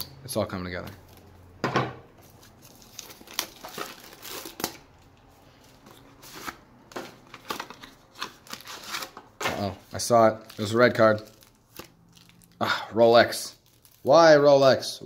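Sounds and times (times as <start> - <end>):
plastic wrap crinkling: 2.2 - 14.4.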